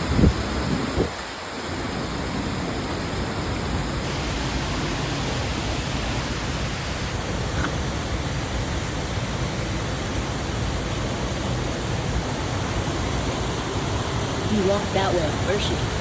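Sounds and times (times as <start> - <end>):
waterfall roar: 0.0 - 16.0.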